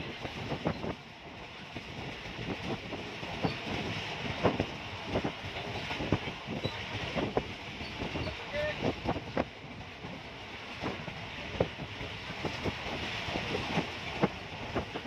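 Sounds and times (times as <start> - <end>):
steady rushing noise: 0.0 - 15.0
train wheels clacking on rails: 0.0 - 15.0.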